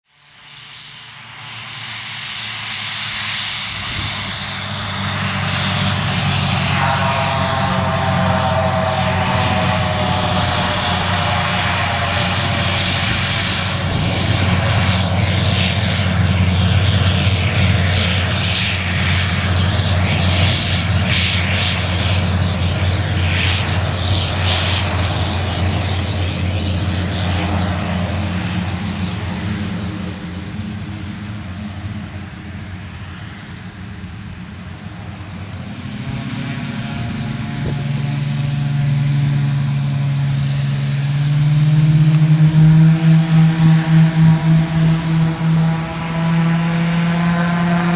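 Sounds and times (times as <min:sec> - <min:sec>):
turbine whine and hiss: 0:00.1 - 0:47.9
turboprop aircraft taxiing: 0:00.1 - 0:47.9.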